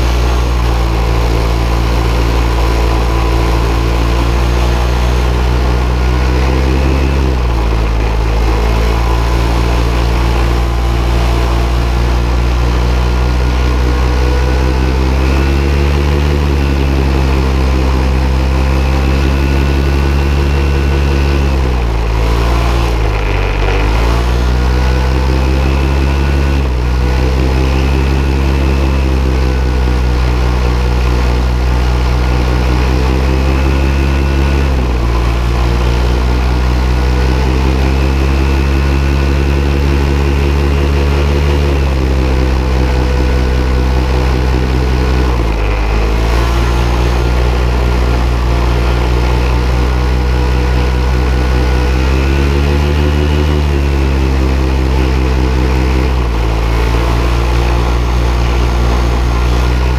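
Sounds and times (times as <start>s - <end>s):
paramotor engine running: 0.0s - 59.9s.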